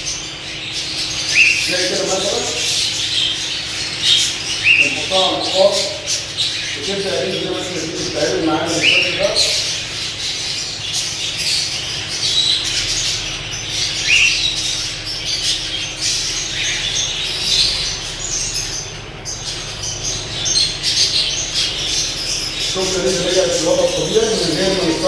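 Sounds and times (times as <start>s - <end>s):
budgerigars chirping: 0.0s - 25.0s
low hum: 0.0s - 25.0s.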